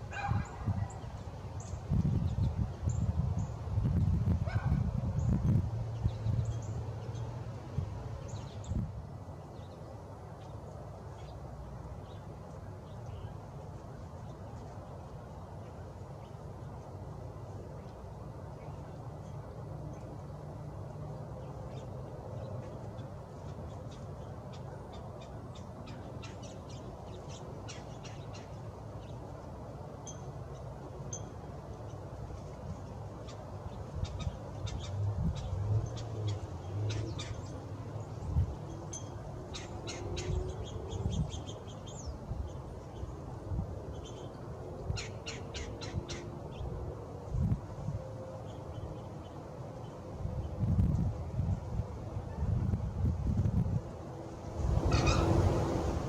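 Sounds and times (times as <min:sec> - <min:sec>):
small songbirds chirping: 0:00.0 - 0:16.8, 0:17.7 - 0:32.0, 0:32.8 - 0:46.8.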